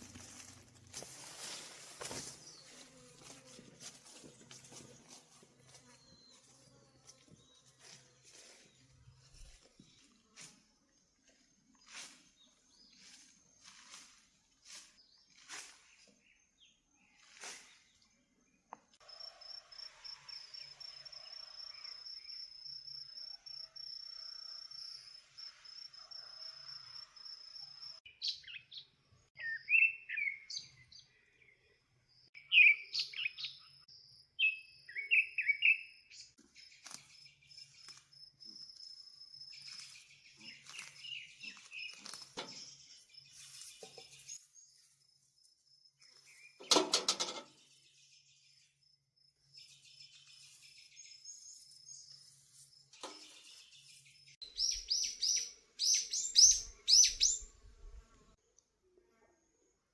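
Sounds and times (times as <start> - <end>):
songbirds chirping: 0.0 - 19.0, 27.4 - 58.6.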